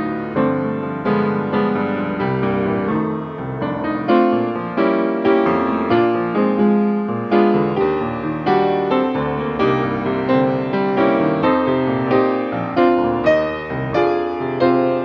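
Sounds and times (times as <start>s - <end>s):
grand piano playing: 0.0s - 15.0s.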